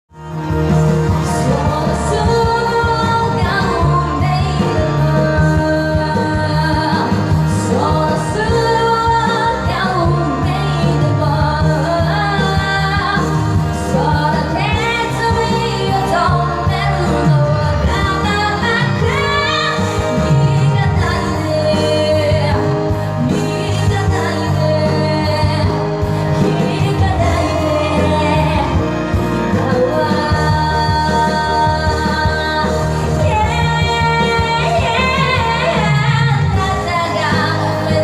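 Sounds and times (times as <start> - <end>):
karaoke backing track: 0.1 - 38.0
person singing into microphone: 0.4 - 38.0.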